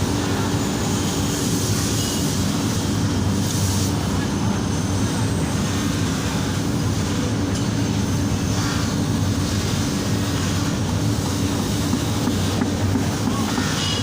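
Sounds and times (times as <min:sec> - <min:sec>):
machine running with low hum: 0:00.0 - 0:14.0.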